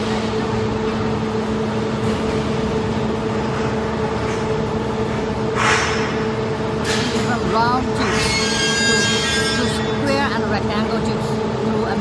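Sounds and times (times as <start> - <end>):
machinery humming and rumbling: 0.0 - 12.0.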